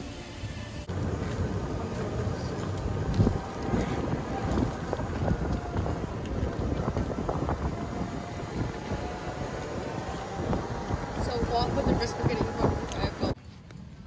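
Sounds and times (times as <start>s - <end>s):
golf cart running: 0.0s - 14.0s
wind buffeting microphone: 0.8s - 14.0s.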